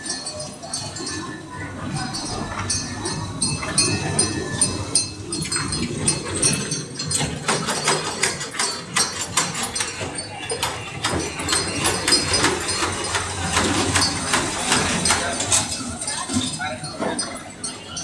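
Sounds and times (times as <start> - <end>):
hubbub of voices: 0.0 - 18.0
ride train clicking on track: 0.0 - 18.0.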